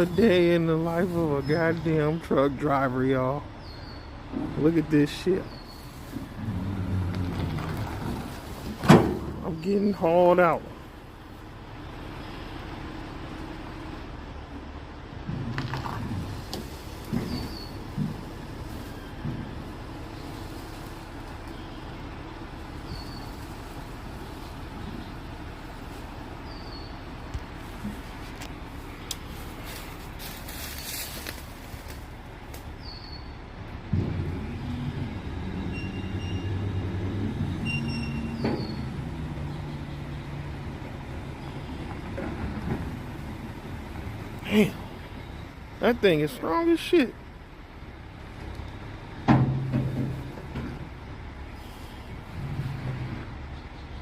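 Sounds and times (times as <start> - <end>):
low engine rumble: 0.0 - 54.0
rig creaking and clunking: 0.0 - 54.0.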